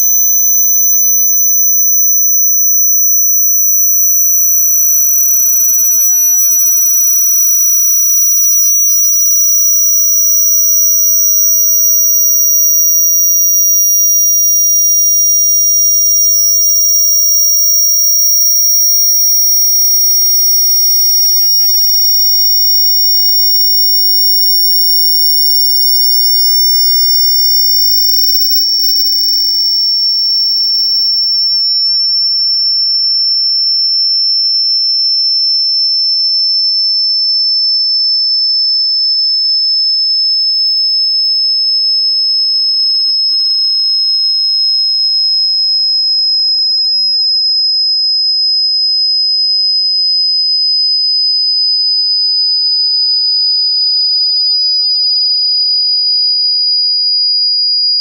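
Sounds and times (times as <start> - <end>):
sine tone sweeping down: 0.0 - 58.0.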